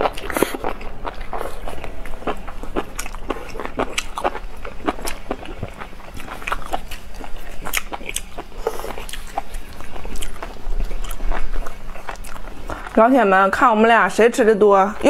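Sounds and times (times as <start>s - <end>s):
people chewing and biting: 0.0s - 13.0s.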